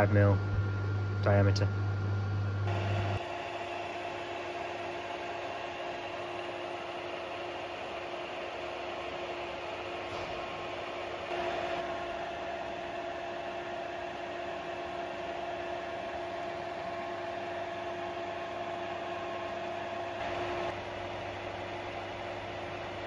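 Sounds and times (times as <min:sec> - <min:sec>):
lathe drive whining: 0:02.6 - 0:23.0.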